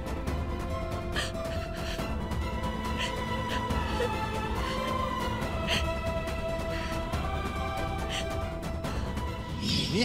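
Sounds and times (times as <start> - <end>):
suspenseful background music: 0.0 - 10.0.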